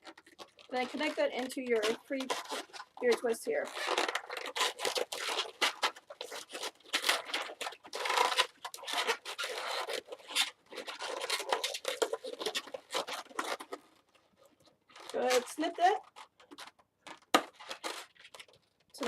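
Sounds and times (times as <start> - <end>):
balloons rubbing and twisting: 0.0 - 19.0.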